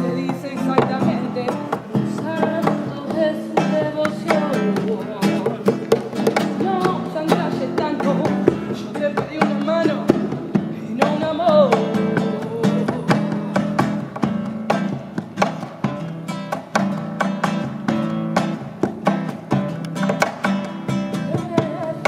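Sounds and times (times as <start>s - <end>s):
acoustic guitars strummed: 0.0s - 22.0s.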